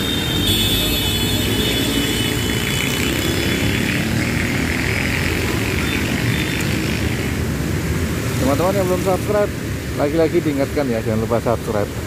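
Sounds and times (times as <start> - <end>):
motorcycles passing on wet road: 0.0 - 12.0.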